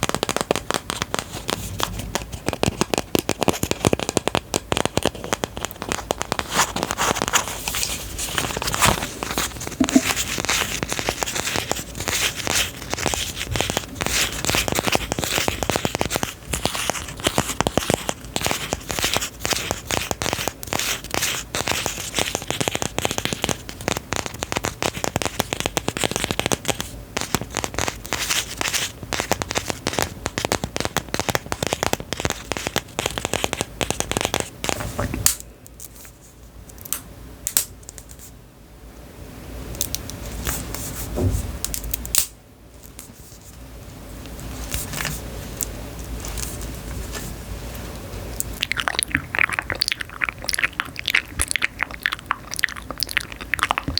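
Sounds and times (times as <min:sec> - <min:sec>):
dense crinkling and crackling: 0:00.0 - 0:35.2, 0:44.4 - 0:53.9.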